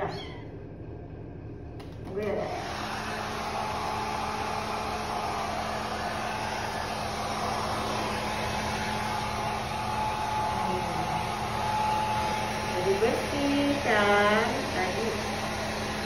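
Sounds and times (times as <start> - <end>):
hair dryer blowing: 1.8 - 16.0.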